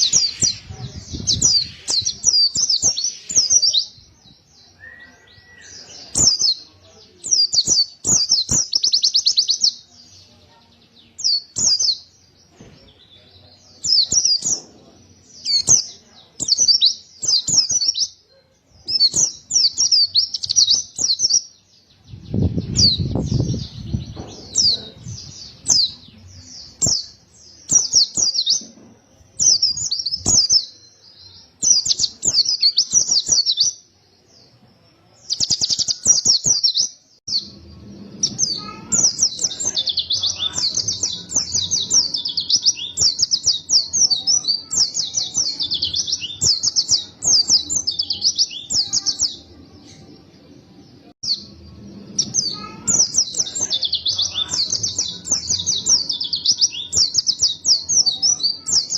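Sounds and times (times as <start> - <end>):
bird twittering song: 0.0 - 58.9.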